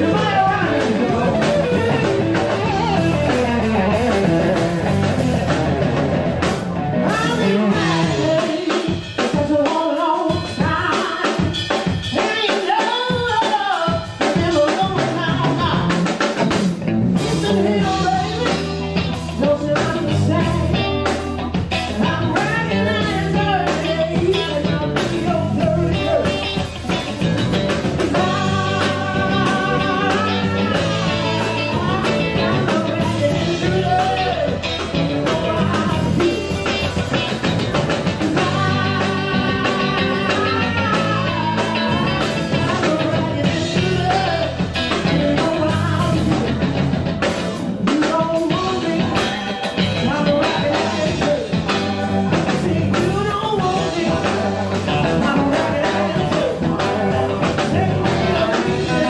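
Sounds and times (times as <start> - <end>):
woman singing: 0.0 - 4.5, 7.0 - 16.4, 17.2 - 46.7, 47.8 - 59.0
blues band playing: 0.0 - 59.0.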